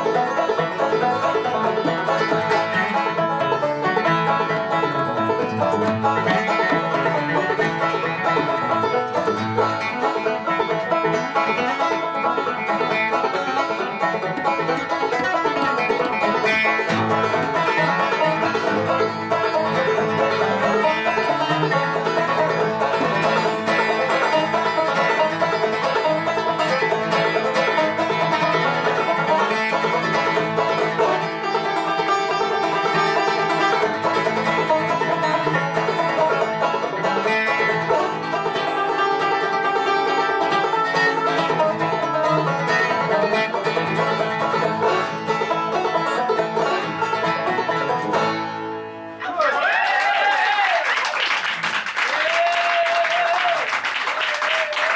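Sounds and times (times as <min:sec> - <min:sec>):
acoustic guitar: 0:00.0 - 0:49.3
banjo picking: 0:00.0 - 0:49.5.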